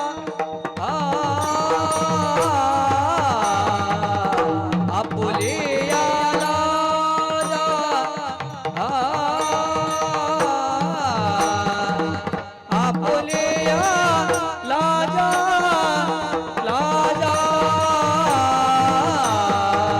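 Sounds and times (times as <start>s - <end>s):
mridang drum strokes: 0.0s - 19.9s
person singing ornamented melody: 0.0s - 19.9s.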